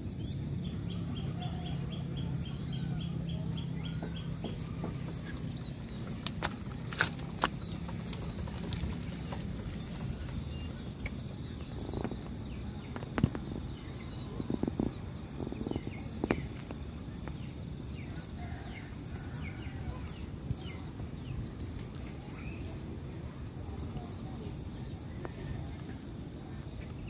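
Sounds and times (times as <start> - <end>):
low background rumble: 0.0 - 27.0
small birds chirping: 0.0 - 27.0.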